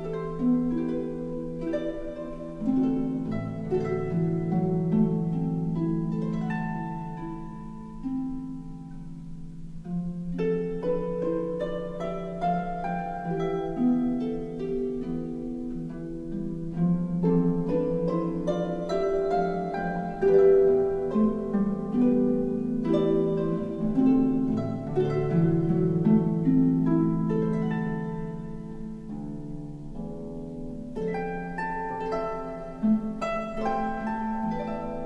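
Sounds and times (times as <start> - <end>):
plucked harp-like notes: 0.0 - 35.0.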